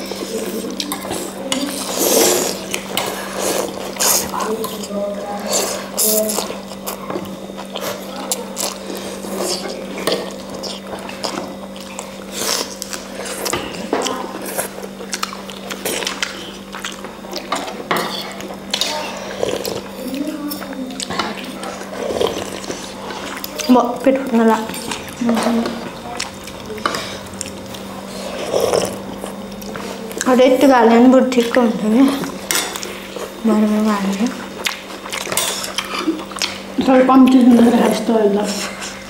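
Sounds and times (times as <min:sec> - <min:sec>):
steady low hum: 0:00.0 - 0:39.0
wet slurping and chewing: 0:00.0 - 0:39.0.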